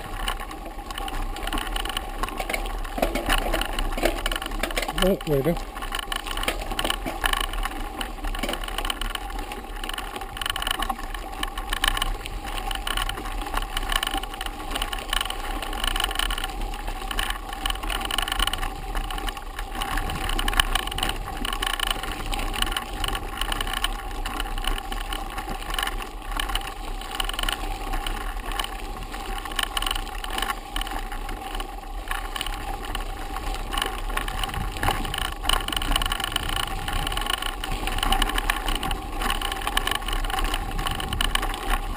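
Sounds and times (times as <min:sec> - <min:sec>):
bike rattling: 0:00.0 - 0:41.9.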